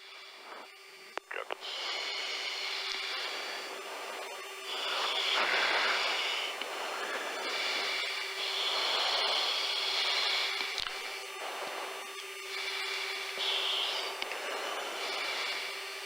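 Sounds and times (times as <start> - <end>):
cockpit airflow hiss: 0.0 - 16.0
faint steady hum: 0.0 - 16.0.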